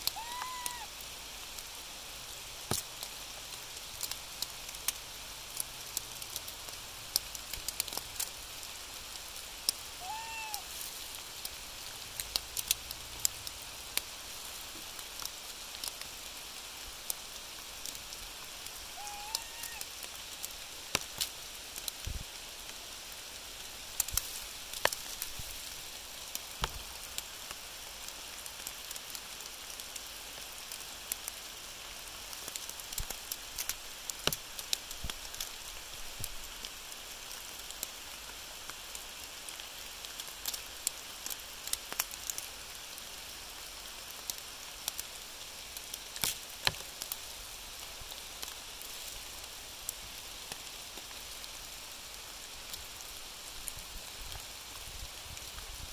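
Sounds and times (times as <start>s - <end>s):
rain hissing: 0.0s - 55.9s.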